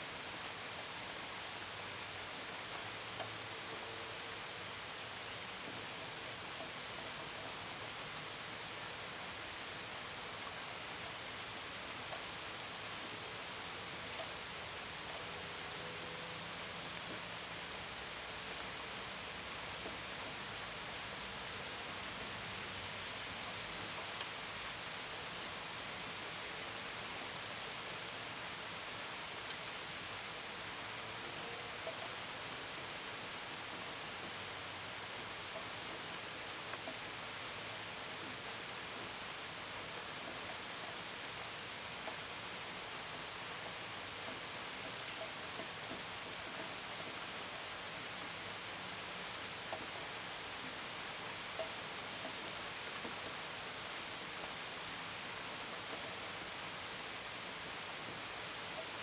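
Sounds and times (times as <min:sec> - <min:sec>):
gentle rain: 0:00.0 - 0:59.0
faint cricket chirps: 0:00.1 - 0:59.0.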